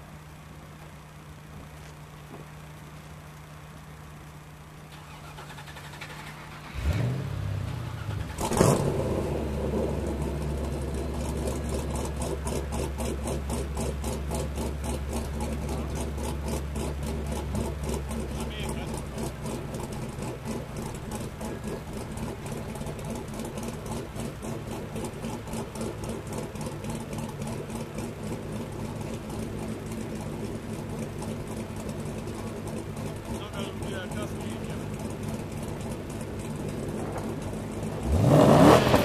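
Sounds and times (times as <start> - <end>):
car engine starting and idling: 0.0 - 39.0.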